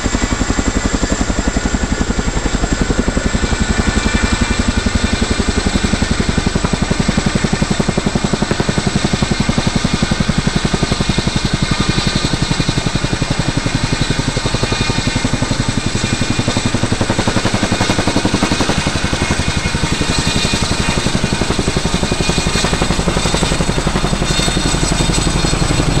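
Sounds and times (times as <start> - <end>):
helicopter rotor chop: 0.0 - 26.0
turbine whine: 0.0 - 26.0.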